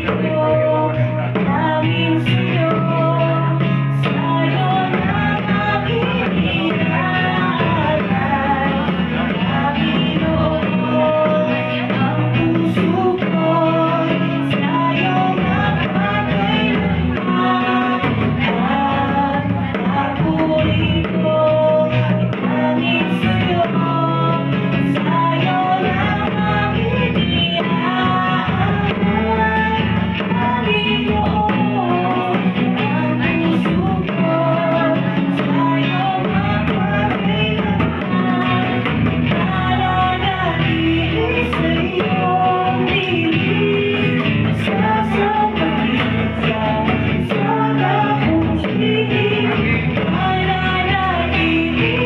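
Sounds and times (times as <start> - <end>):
hand drums: 0.0 - 52.0
man singing: 0.0 - 52.0
woman singing: 0.0 - 52.0.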